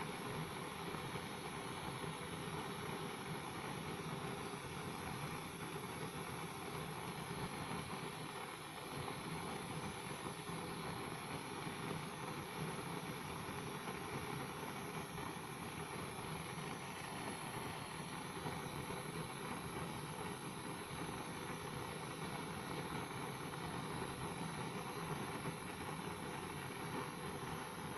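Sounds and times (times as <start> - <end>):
blowtorch hissing: 0.0 - 27.9.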